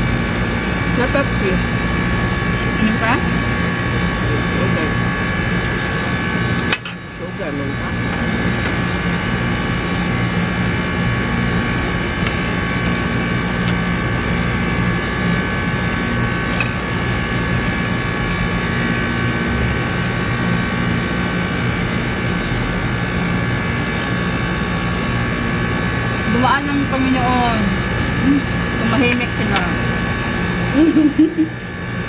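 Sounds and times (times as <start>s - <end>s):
machine hum with whining tones: 0.0s - 32.0s.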